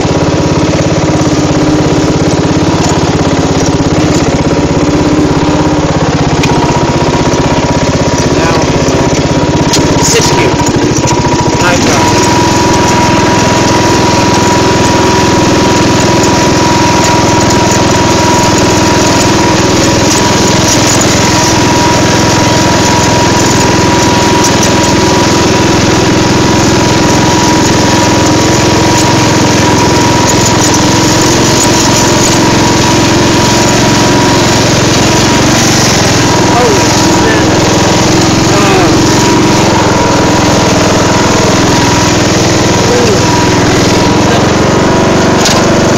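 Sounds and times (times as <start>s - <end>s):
riding lawn mower engine running: 0.0s - 45.9s.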